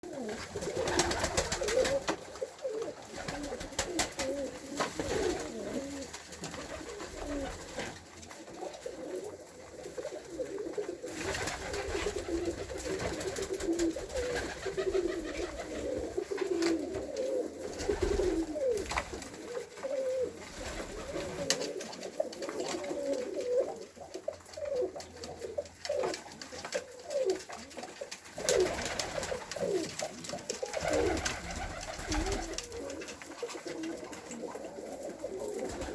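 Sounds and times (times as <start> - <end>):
pigeons cooing: 0.0 - 35.9.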